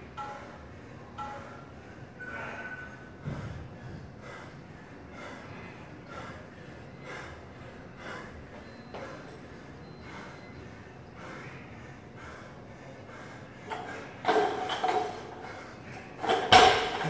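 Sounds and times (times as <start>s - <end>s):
man breathing hard: 1.8s - 17.0s.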